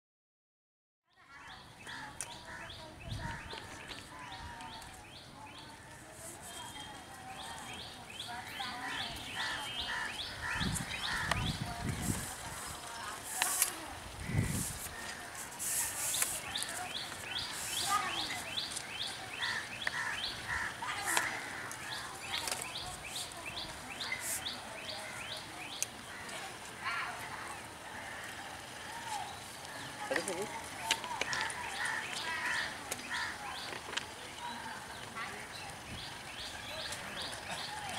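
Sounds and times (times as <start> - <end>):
faint voices: 1.2 - 37.9.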